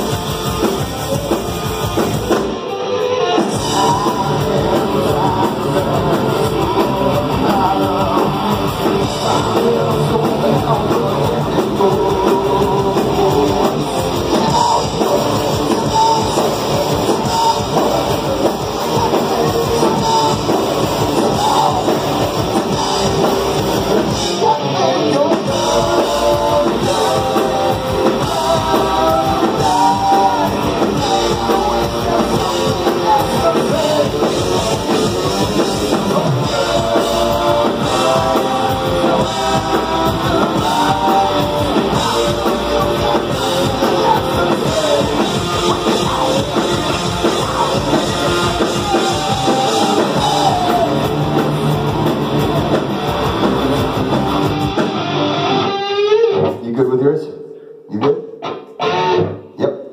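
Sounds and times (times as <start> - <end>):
electric guitar: 0.0 - 56.7, 58.0 - 59.9
drums: 0.0 - 57.0
man singing into microphone: 2.7 - 51.2.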